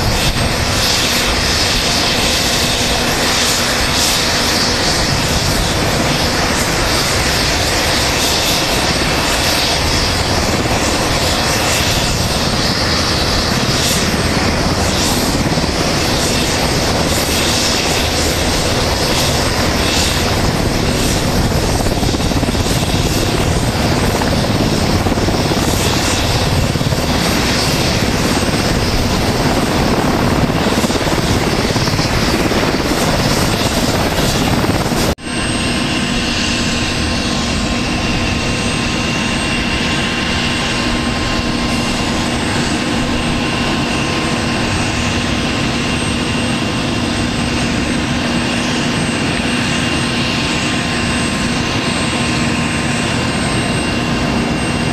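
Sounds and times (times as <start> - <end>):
helicopter rotor noise: 0.0 - 54.9
helicopter turbine whine: 0.0 - 54.9.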